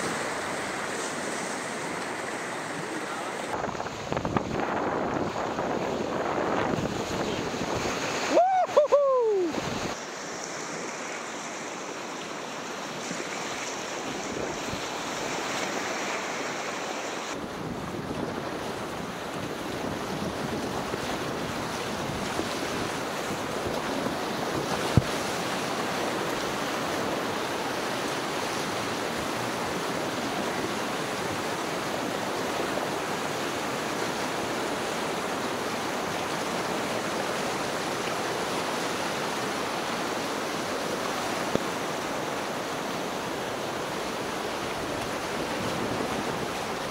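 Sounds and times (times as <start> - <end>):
river rapids rushing: 0.0 - 46.9.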